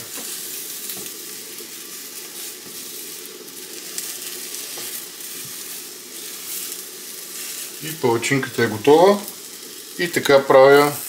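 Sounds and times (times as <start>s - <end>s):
pancake sizzling in a pan: 0.0s - 11.0s.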